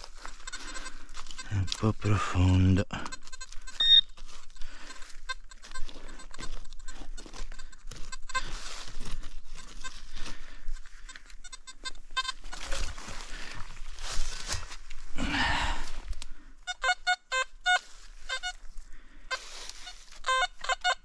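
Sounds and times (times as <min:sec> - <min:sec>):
rustle of earth and leaves: 0:00.0 - 0:16.5, 0:17.8 - 0:20.3.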